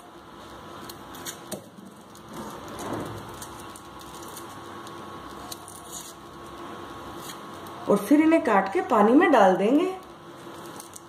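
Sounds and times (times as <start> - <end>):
onion skin crackling under knife: 0.0 - 11.0
steady low hum: 0.0 - 11.0.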